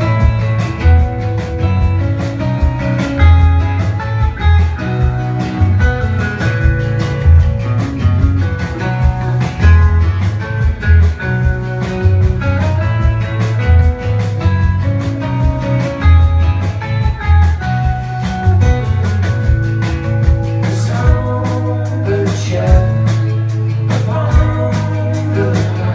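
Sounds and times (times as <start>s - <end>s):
drum kit beat: 0.0s - 25.9s
electric guitars: 0.0s - 25.9s
strummed acoustic guitar: 0.0s - 25.9s.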